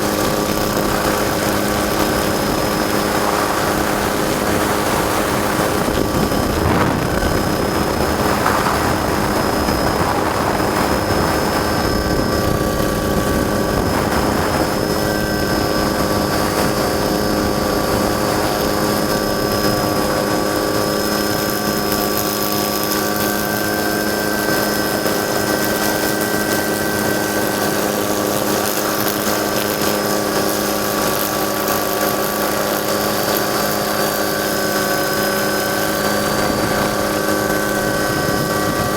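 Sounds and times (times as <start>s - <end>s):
helicopter rotor and engine: 0.0s - 38.9s
whining tones: 0.0s - 38.9s.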